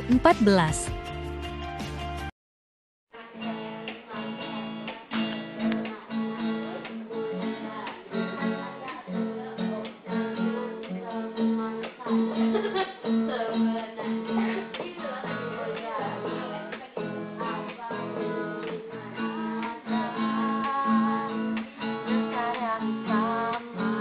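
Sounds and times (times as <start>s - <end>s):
acoustic guitar strumming: 4.2s - 24.0s.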